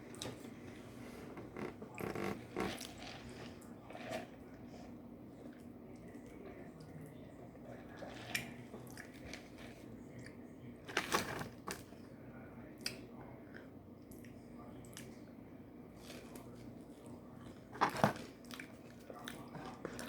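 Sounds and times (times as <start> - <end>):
chewing and crunching food: 0.0 - 12.1, 15.9 - 20.0.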